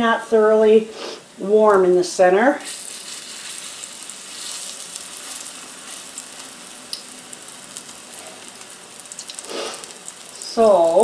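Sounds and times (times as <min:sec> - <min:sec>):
batter sizzling in oil: 0:01.8 - 0:11.0.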